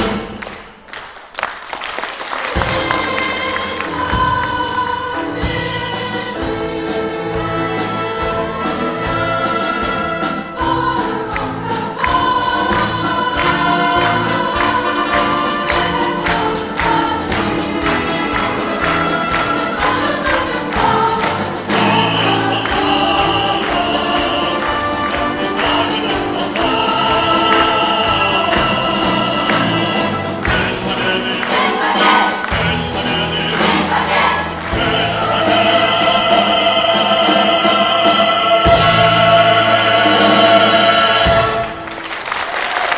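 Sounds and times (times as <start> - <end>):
orchestra playing with driving beat: 0.0 - 0.7, 2.5 - 42.5.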